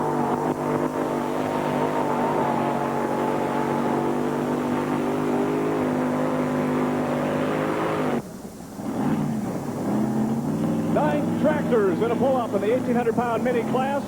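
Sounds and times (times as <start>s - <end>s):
tractor engine running at high revs: 0.0s - 14.0s.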